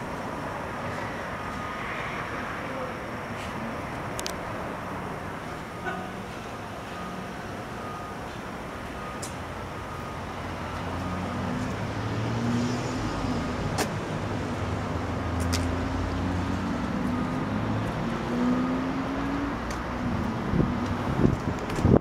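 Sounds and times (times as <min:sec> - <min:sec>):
road traffic noise: 0:00.0 - 0:22.0
vehicle engine humming: 0:00.0 - 0:22.0.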